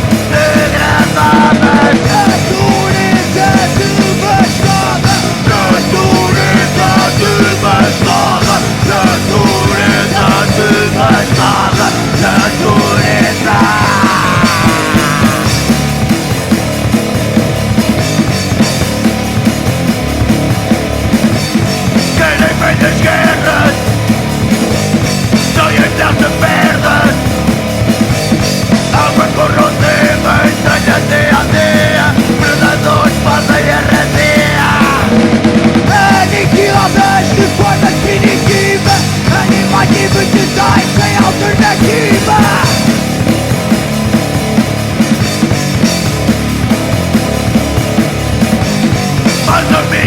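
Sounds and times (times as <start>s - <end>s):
punk rock band playing live: 0.0s - 50.0s.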